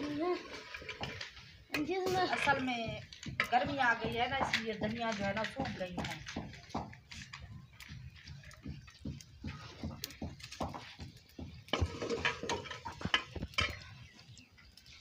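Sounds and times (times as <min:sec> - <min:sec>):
dry sticks knocking and clicking: 0:00.8 - 0:14.0.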